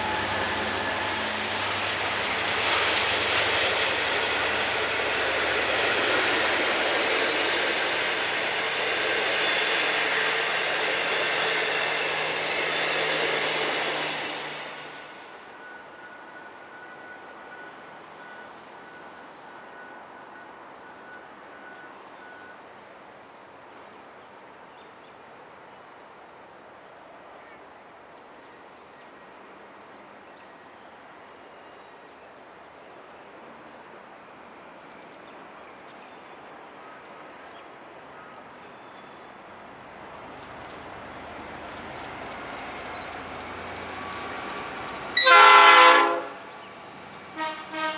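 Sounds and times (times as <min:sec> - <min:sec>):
train approaching: 0:00.0 - 0:47.9.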